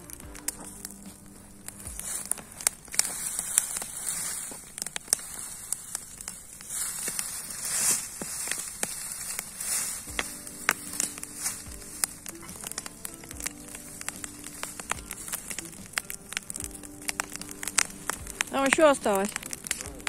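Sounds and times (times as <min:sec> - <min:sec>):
bonfire crackling and popping: 0:00.0 - 0:20.0
fire hissing: 0:00.0 - 0:20.0.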